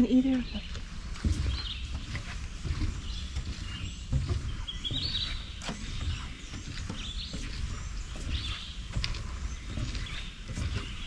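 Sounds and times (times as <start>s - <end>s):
footsteps on wooden boardwalk: 0.0s - 11.0s.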